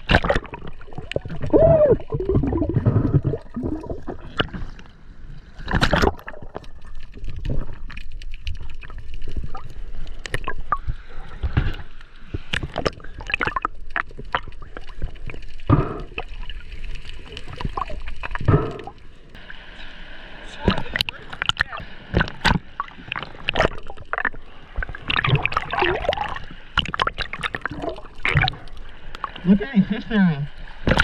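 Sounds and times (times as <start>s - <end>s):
splashes and knocks: 0.0s - 4.8s, 5.6s - 19.0s, 20.6s - 29.5s, 30.8s - 31.0s
water bubbling: 0.0s - 29.8s, 30.5s - 31.0s
water gurgling and sloshing: 0.0s - 31.0s.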